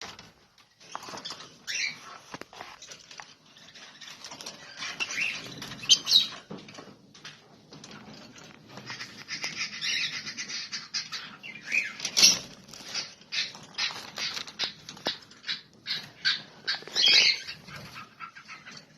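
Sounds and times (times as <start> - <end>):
birds chirping rapidly: 1.0 - 2.3, 3.4 - 6.5, 8.2 - 18.9.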